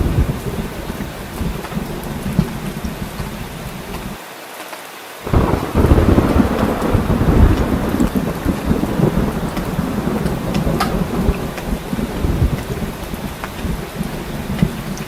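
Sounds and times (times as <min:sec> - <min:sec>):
thunder rumbling: 0:00.0 - 0:04.2, 0:05.2 - 0:15.0
heavy rain: 0:00.0 - 0:15.0.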